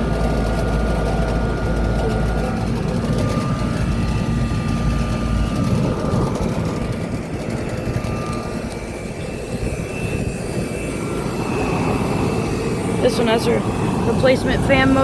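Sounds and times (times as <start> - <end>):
compressor hum: 0.0 - 15.0
condenser fan drone: 0.0 - 15.0
faint steady whine: 0.0 - 15.0.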